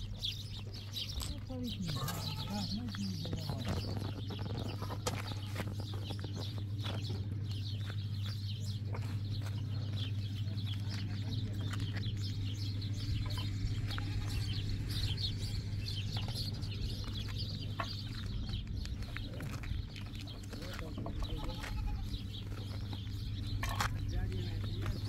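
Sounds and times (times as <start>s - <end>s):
birds calling: 0.0s - 25.0s
steady low hum: 0.0s - 25.0s.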